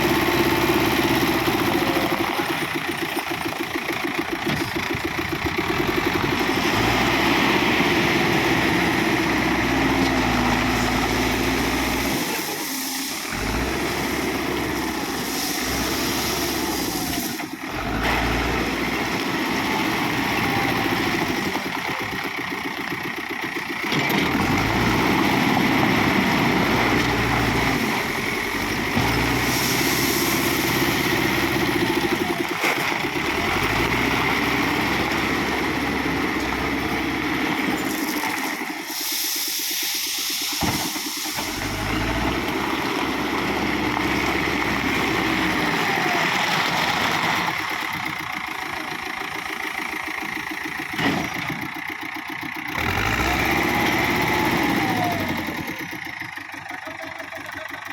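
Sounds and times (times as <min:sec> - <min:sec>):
earth-moving machine engine: 0:00.0 - 0:57.9.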